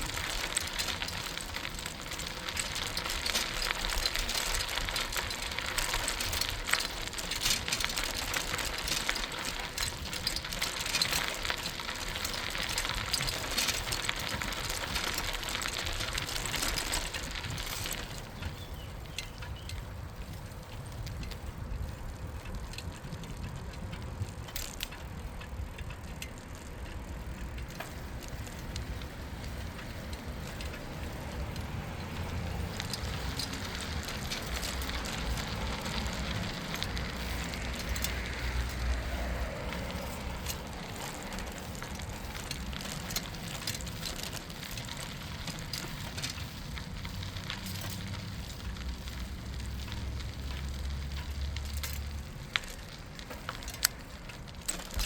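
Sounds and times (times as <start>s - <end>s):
bicycle tyres rolling on path: 0.0s - 55.0s.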